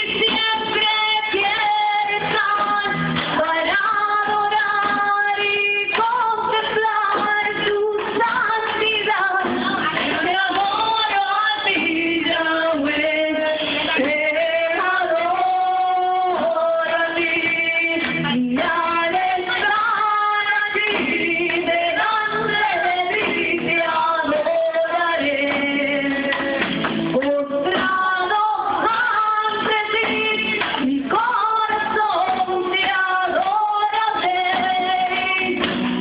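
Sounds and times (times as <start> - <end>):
women singing worship song: 0.0 - 35.8
instrumental accompaniment: 0.0 - 36.0.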